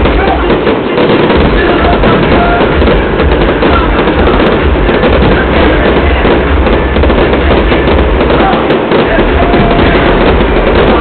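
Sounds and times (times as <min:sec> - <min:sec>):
fireworks crackling: 0:00.0 - 0:11.0
low fireworks booms: 0:00.0 - 0:11.0.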